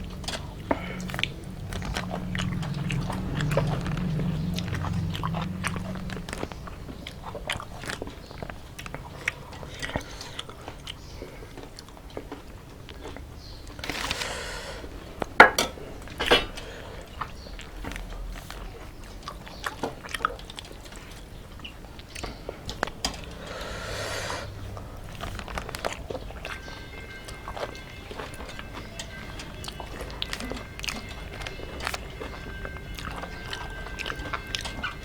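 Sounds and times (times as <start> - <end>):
chewing and crunchy bites: 0.0 - 23.8, 24.5 - 35.0.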